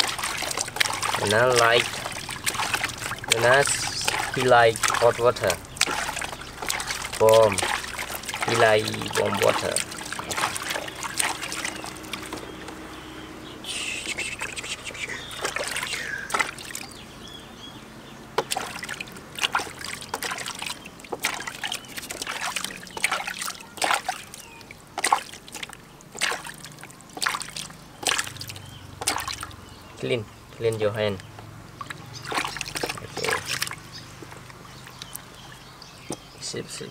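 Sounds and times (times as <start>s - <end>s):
water splashing in plastic basin: 0.0s - 13.6s, 14.4s - 17.2s, 18.2s - 36.4s
water trickling: 0.0s - 36.9s.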